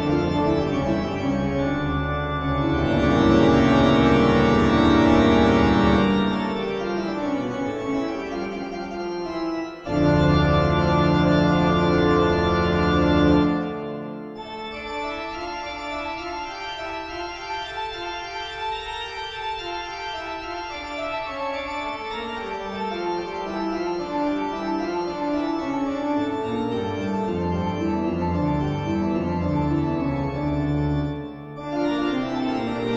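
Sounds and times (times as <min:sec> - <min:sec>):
eerie organ music: 0:00.0 - 0:32.9.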